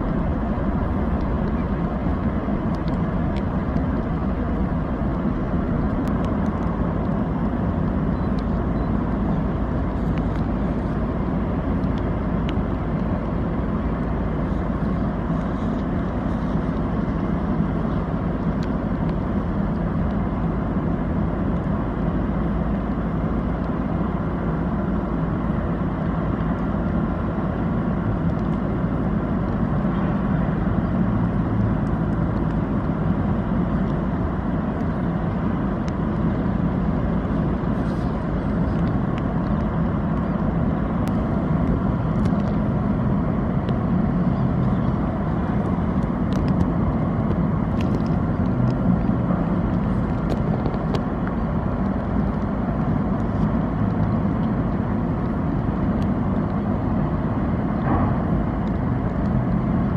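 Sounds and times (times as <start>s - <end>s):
ship engines rumbling: 0.0s - 59.9s.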